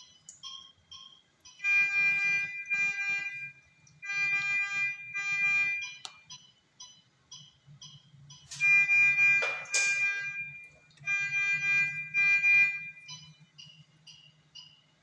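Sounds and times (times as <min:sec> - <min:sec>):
medical alarm beeping: 0:00.0 - 0:15.0.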